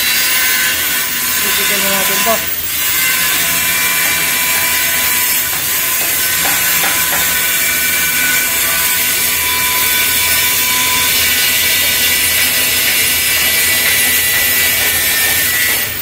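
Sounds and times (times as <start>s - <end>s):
hand tool scraping plastic pipe: 0.0s - 16.0s
steady tones: 0.2s - 16.0s.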